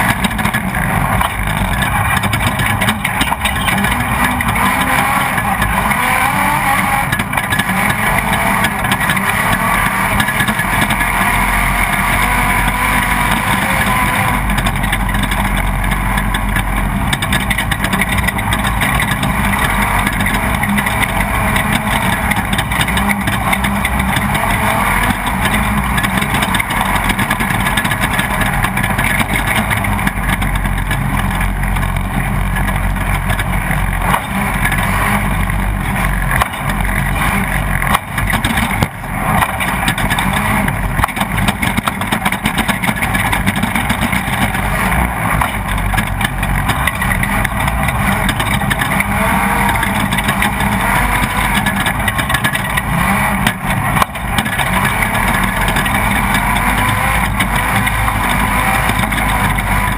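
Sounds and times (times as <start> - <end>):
rattling: 0.0 - 59.9
truck engine running hard: 0.0 - 59.9.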